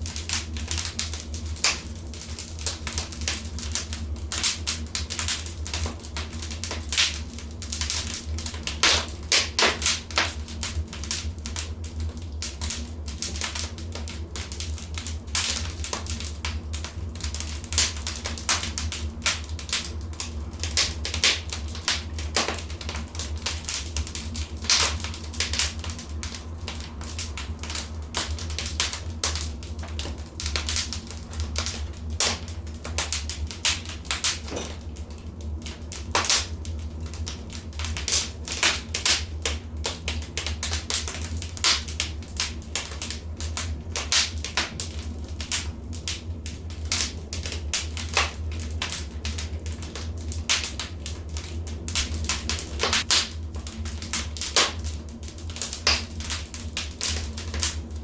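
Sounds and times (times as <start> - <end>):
steady low rumble: 0.0 - 58.0
wood fire crackling: 0.0 - 58.0.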